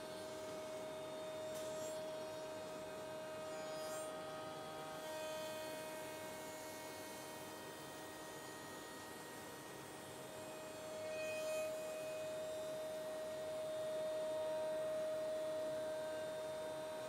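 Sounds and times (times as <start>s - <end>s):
machine whine: 0.0s - 17.0s.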